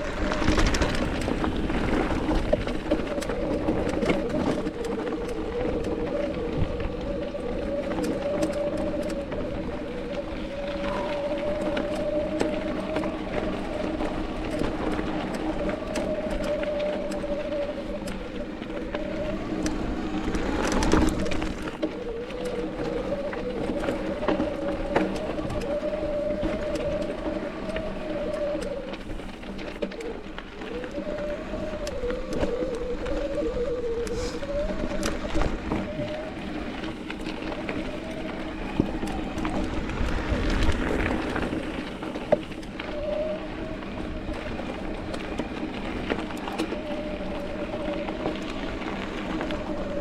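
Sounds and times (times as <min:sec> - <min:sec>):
tyre and wind rush: 0:00.0 - 0:29.3, 0:30.5 - 0:50.0
bike wheels whirring: 0:00.0 - 0:50.0.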